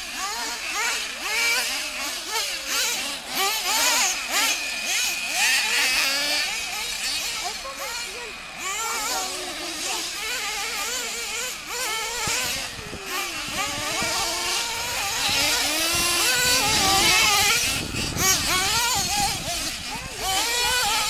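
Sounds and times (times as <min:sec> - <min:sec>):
small engines revving: 0:00.0 - 0:21.0.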